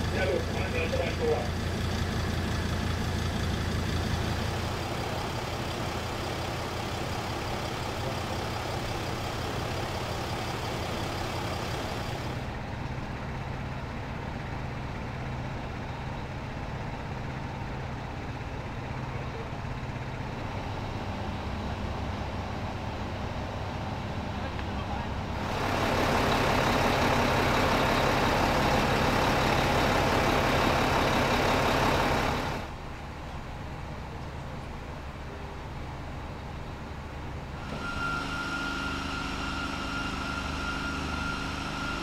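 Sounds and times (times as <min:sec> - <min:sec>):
heavy engines idling: 0:00.0 - 0:42.0.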